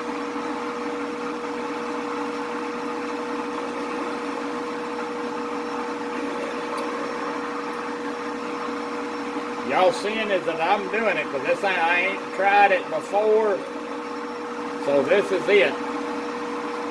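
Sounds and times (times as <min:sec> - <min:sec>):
metal lathe motor whine: 0:00.0 - 0:16.9.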